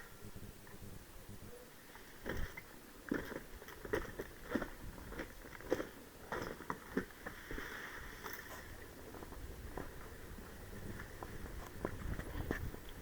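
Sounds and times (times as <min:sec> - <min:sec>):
crunching footsteps: 0:02.0 - 0:13.0.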